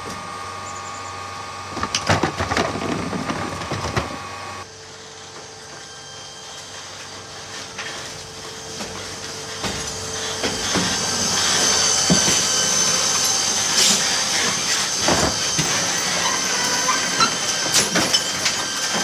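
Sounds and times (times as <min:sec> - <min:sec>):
garbage truck rolling: 0:01.6 - 0:06.0, 0:06.6 - 0:19.0.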